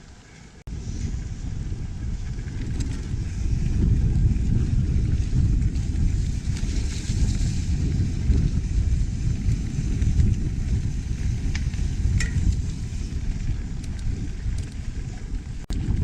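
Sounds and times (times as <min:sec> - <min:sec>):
wind buffeting microphone: 0:00.6 - 0:16.0.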